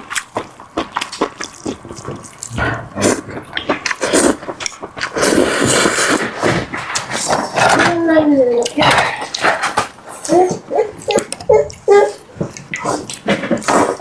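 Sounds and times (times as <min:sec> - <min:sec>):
slurping: 0:00.0 - 0:14.0
wet chewing and smacking: 0:00.0 - 0:14.0.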